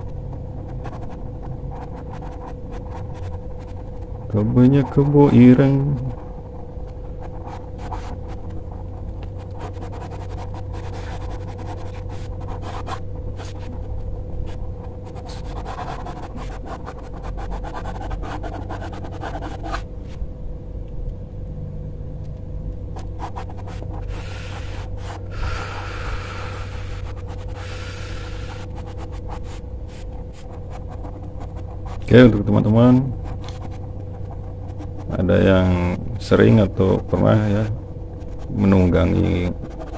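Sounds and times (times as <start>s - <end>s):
pencil scratching on paper: 0.0s - 19.8s, 23.0s - 39.9s
steady low hum: 0.0s - 39.9s.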